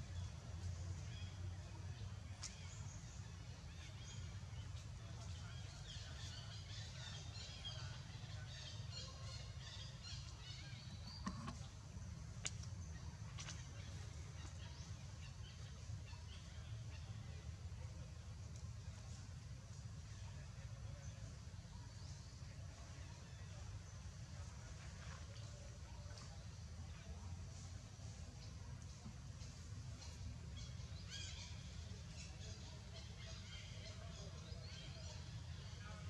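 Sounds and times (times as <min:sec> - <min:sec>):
small birds chirping: 0:00.0 - 0:24.7, 0:25.3 - 0:36.0.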